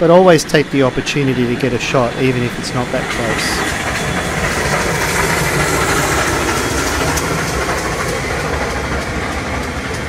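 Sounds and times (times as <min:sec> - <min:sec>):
steam train rumbling on track: 0:00.0 - 0:10.0.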